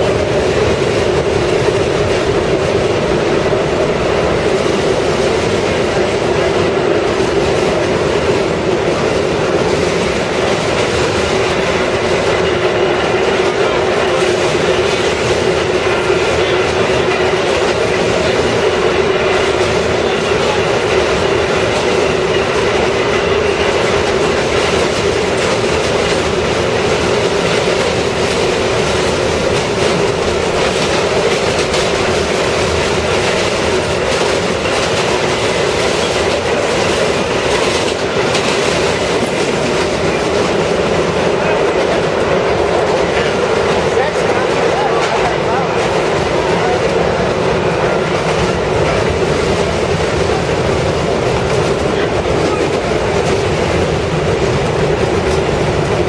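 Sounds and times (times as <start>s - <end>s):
subway car running on rails: 0.0s - 56.0s.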